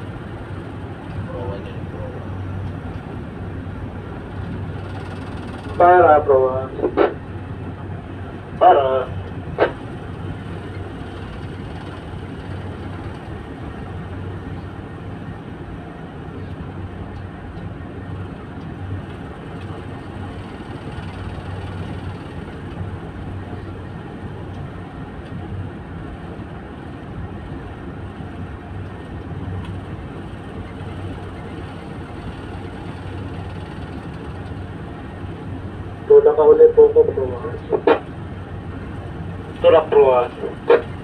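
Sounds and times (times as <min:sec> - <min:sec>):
diesel engines humming: 0:00.0 - 0:41.0.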